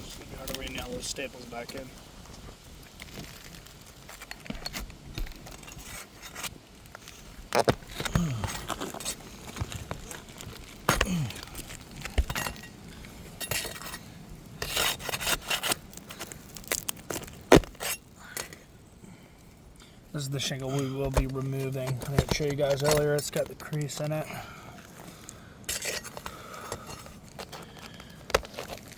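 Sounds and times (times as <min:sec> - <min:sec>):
tools scraping roof shingles: 0:03.0 - 0:18.7, 0:20.2 - 0:28.9.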